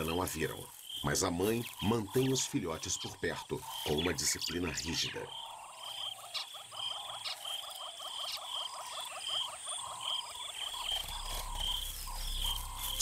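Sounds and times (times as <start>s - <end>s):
frogs croaking in chorus: 0.0s - 13.0s.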